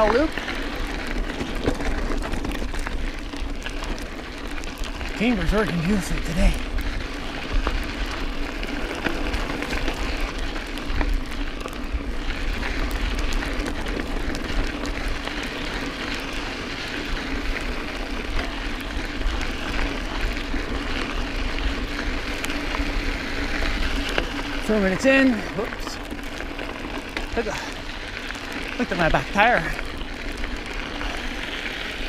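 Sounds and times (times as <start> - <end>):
bike tyres crunching on gravel: 0.0 - 32.0
stones and bike rattling: 0.0 - 32.0.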